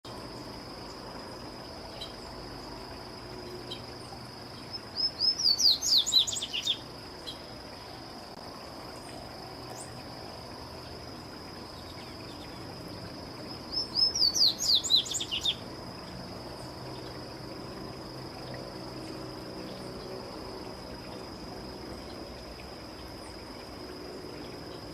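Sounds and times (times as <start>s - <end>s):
high insect trill: 0.1s - 24.9s.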